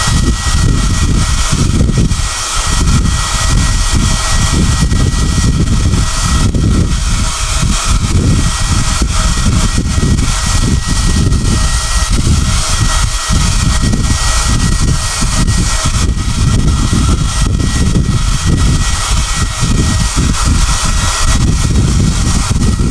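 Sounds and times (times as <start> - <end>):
hair dryer running: 0.0 - 22.9.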